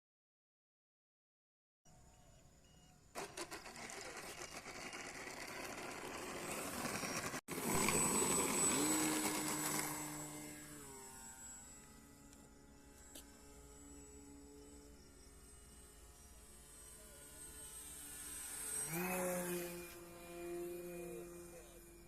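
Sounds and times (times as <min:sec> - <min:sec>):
model airplane engine running: 0:03.1 - 0:22.0.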